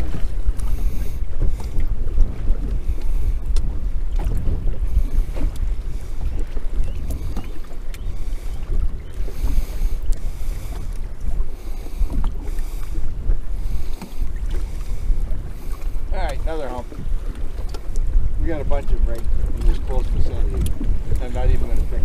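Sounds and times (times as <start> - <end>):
water washing against hull: 0.0 - 22.0
wind buffeting microphone: 0.0 - 22.0.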